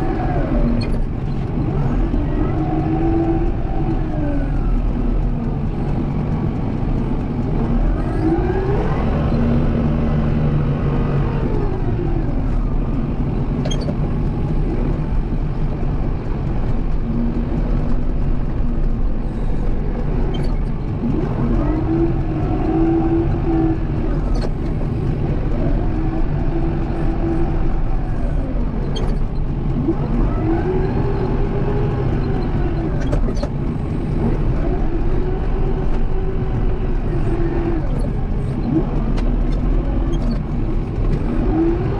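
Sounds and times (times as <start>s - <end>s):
tractor diesel engine: 0.0s - 41.9s.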